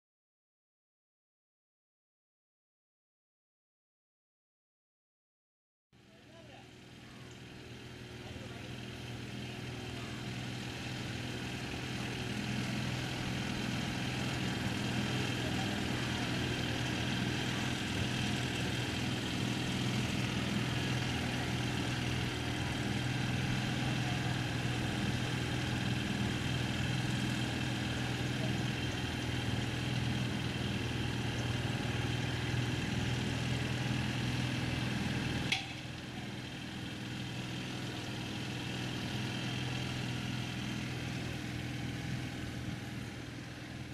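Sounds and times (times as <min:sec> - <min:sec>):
boat engine humming: 0:06.0 - 0:43.9.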